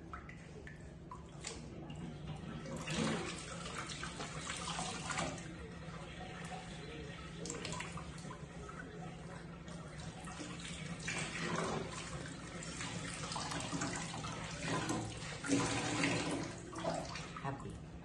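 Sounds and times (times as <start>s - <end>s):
tap water running into sink: 1.2s - 17.4s.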